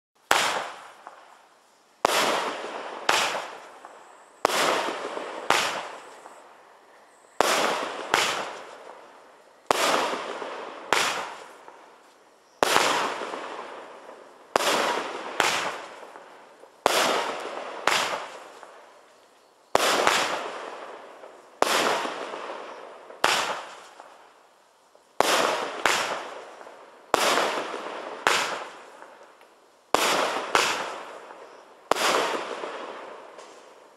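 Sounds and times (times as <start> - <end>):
firework bangs with hiss: 0.2 - 33.9.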